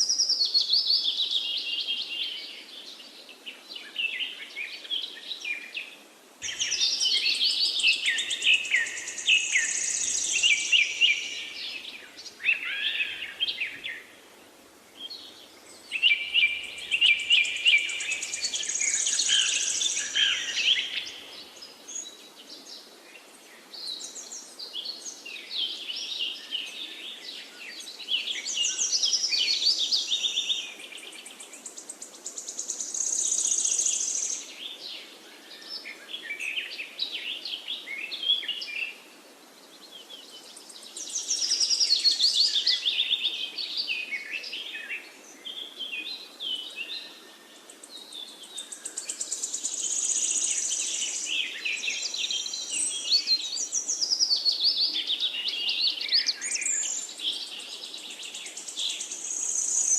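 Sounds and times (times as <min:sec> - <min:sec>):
faint steady hiss: 0:00.0 - 0:59.9
songbirds warbling: 0:03.6 - 0:14.2, 0:14.9 - 0:39.0, 0:39.7 - 0:59.9.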